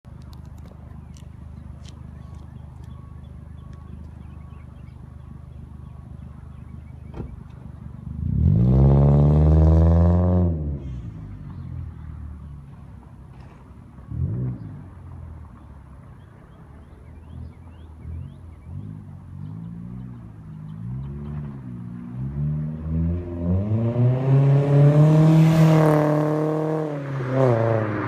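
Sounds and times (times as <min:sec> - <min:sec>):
car engine idling and revving: 0:00.1 - 0:28.0.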